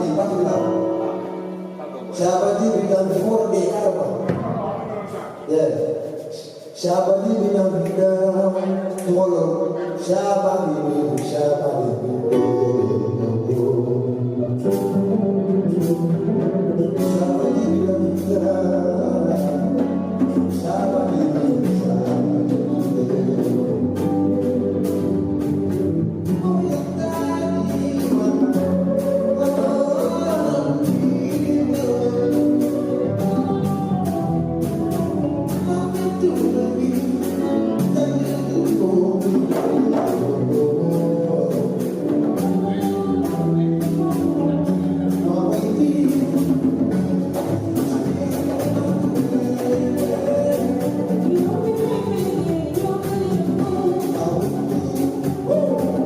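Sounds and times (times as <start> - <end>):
song with singing and beat: 0.0 - 56.0.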